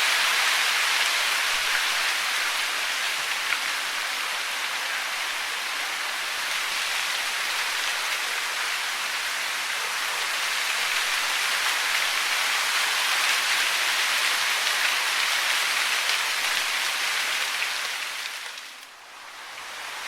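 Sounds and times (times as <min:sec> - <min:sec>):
hiss of falling water: 0:00.0 - 0:20.0.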